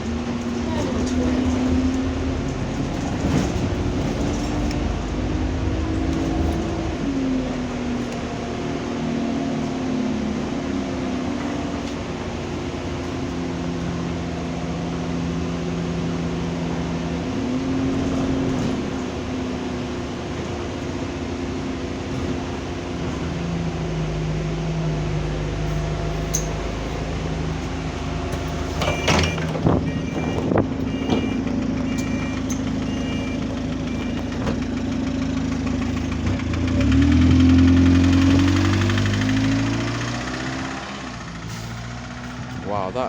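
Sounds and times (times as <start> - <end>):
bus engine and gearbox running: 0.0 - 43.0.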